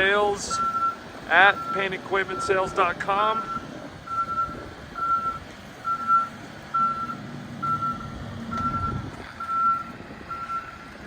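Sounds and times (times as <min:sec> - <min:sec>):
low engine hum: 0:00.0 - 0:11.0
reversing alarm beeping: 0:00.5 - 0:10.8.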